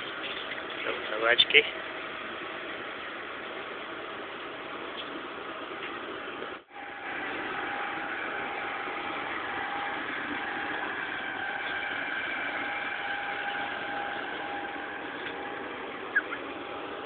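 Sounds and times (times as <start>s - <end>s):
constant whine: 0.0s - 17.0s
diesel engine running: 0.0s - 17.0s.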